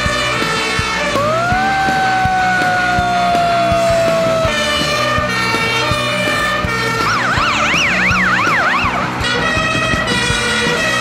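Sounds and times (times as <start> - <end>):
emergency vehicle sirens: 0.0 - 11.0
rock music with drum beat: 0.0 - 11.0.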